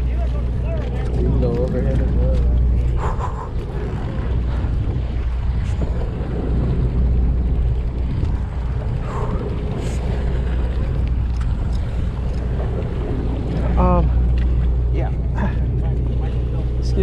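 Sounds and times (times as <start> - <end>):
boat engine rumbling: 0.0 - 17.0
wind on microphone: 0.0 - 17.0.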